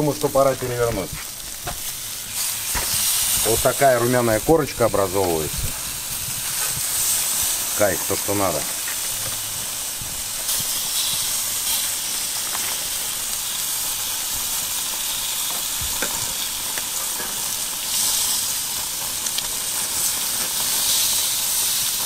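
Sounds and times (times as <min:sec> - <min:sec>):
meat sizzling on grill: 0:00.0 - 0:22.0.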